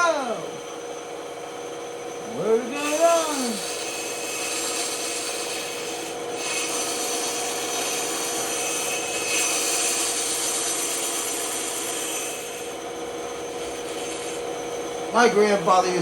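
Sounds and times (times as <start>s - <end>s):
bandsaw cutting wood: 2.4s - 16.0s.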